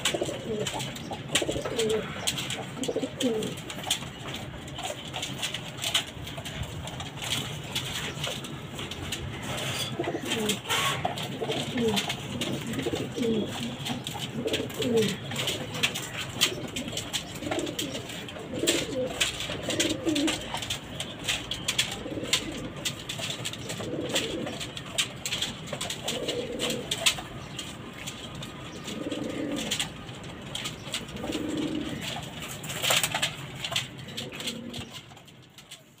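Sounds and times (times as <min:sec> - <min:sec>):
pigeons cooing: 0:00.0 - 0:35.9.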